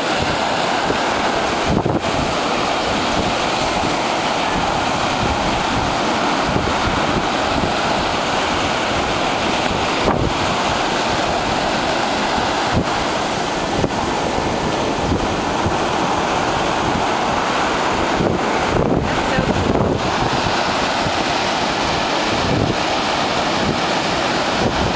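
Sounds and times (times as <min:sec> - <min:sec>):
ocean surf breaking on beach: 0:00.0 - 0:24.9
wind buffeting microphone: 0:00.0 - 0:24.9.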